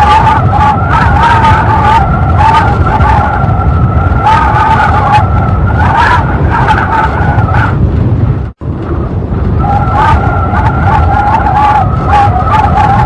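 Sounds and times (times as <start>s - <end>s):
high whistling howl: 0.0s - 7.8s, 9.6s - 13.0s
heavy low rumble: 0.0s - 13.0s
strong wind gusting: 0.0s - 13.0s.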